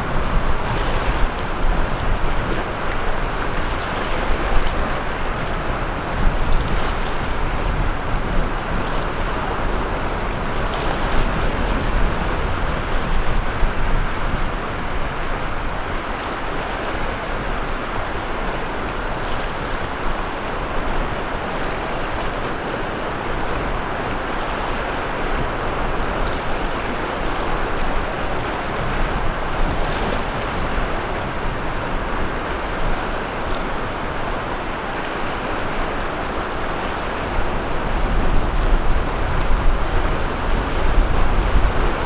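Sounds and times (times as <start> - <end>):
surf washing onto beach: 0.0 - 42.0
wind rumble on microphone: 0.0 - 42.0.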